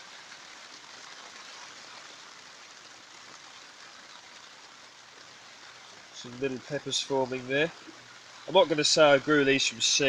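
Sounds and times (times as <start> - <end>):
rain on plastic sheeting: 0.0 - 10.0.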